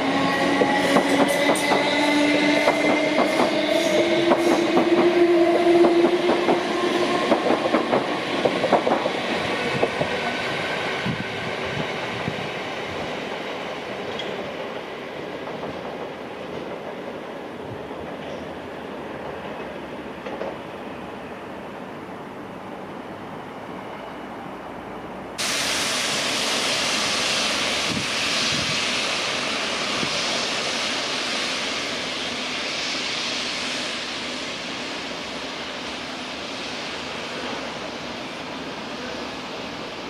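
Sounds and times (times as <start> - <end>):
electric train approaching: 0.0 - 40.0
rail vehicle hissing rush: 0.0 - 40.0.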